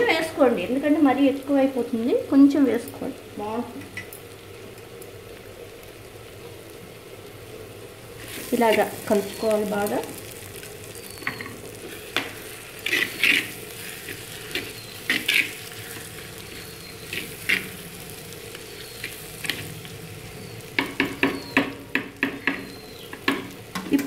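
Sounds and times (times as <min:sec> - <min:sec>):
low sizzle: 0:00.0 - 0:24.0.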